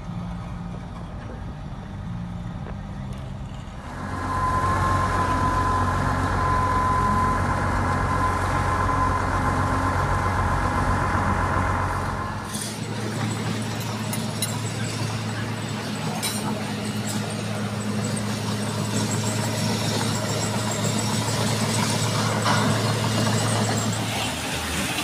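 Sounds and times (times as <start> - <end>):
engine drone with high whine: 0.0 - 25.0
heavy machinery engines humming: 0.0 - 25.0.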